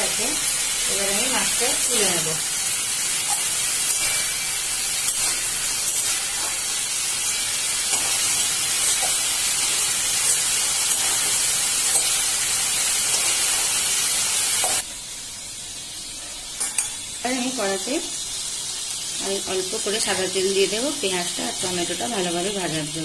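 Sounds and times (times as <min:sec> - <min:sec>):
prawns sizzling in a wok: 0:00.0 - 0:23.0.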